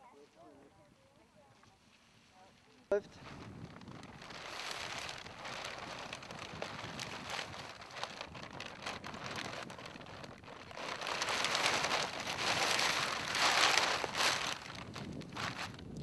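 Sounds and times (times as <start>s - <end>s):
sail cloth rustling and crinkling: 1.5s - 16.0s.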